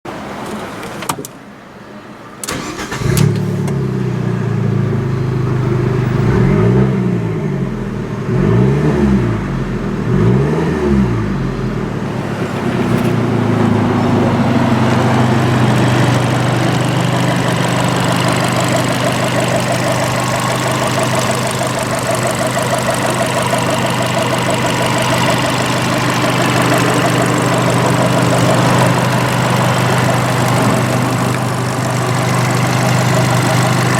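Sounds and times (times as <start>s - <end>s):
car engine starting and revving: 2.4s - 33.9s.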